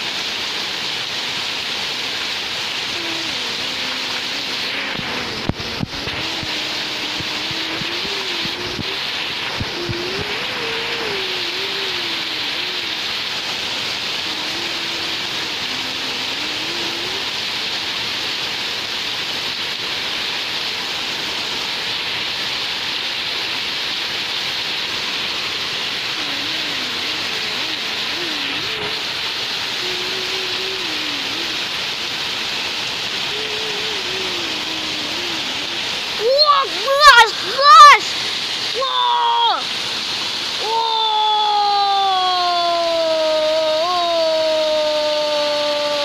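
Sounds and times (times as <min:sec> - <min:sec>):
heavy rain on tiles: 0:00.0 - 0:46.0.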